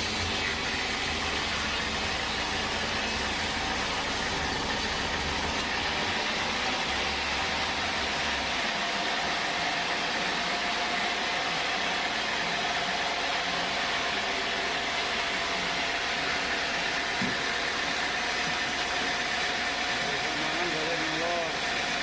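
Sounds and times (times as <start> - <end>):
constant machine whine: 0.0 - 22.0
sawmill machinery running: 0.0 - 22.0.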